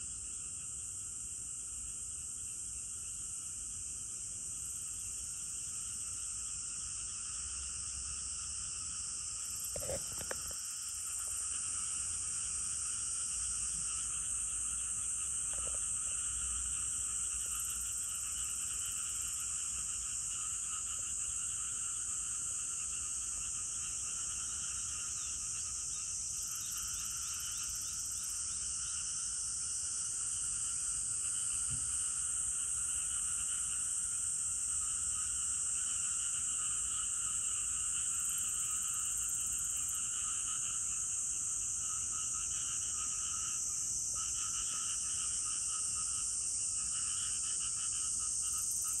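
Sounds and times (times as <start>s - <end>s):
insects pulsing trill: 0.0s - 49.0s
insects shrill hiss: 4.8s - 49.0s.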